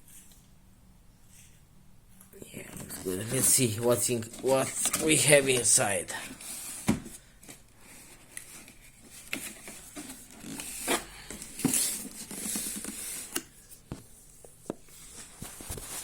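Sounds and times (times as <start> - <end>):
packaging rustling: 2.8 - 16.0.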